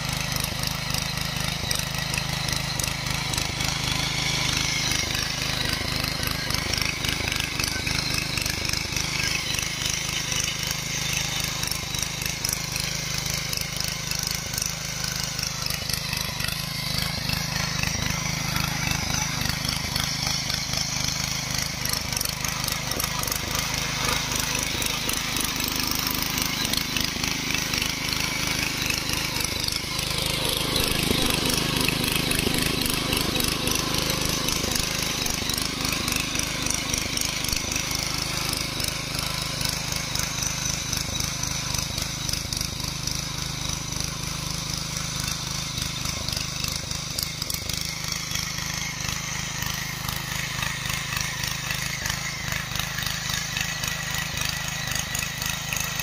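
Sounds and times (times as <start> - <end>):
tiller engine running under load: 0.0 - 56.0.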